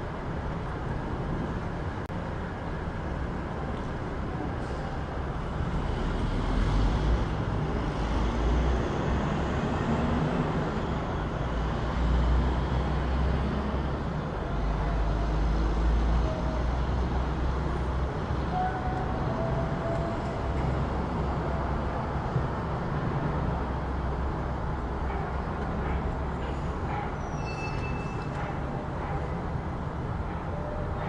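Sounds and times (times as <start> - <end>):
traffic hum: 0.0 - 31.0
cars passing: 4.4 - 31.0.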